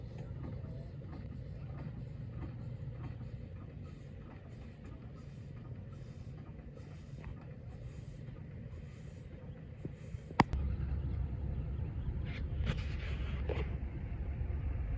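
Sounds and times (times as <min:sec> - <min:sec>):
low mechanical rumble: 0:00.0 - 0:14.9.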